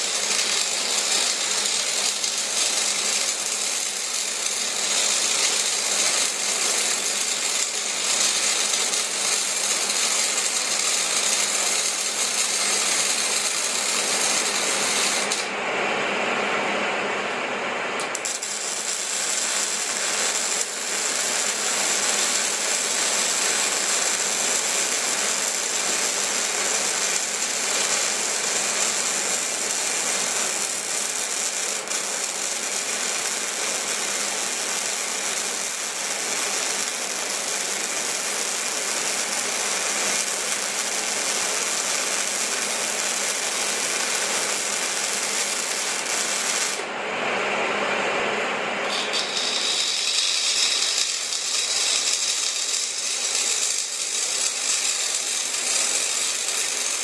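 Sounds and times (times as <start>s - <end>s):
welding arc crackling: 0.0s - 15.5s, 18.0s - 46.9s, 48.8s - 57.0s.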